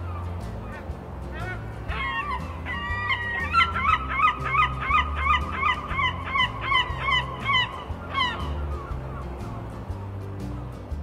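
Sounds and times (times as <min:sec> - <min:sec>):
gull laughing call: 0:00.0 - 0:09.4.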